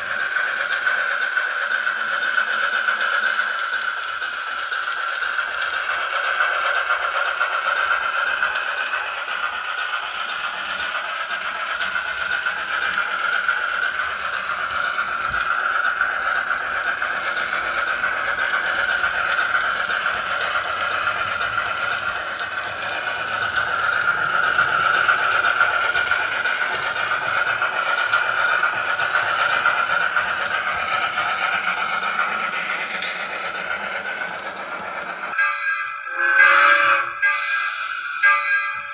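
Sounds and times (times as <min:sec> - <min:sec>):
model steam locomotive hiss: 0:00.0 - 0:38.9.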